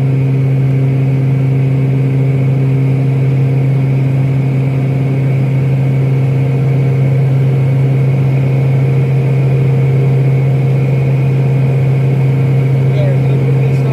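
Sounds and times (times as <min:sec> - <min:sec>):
aircraft engines droning: 0:00.0 - 0:13.9.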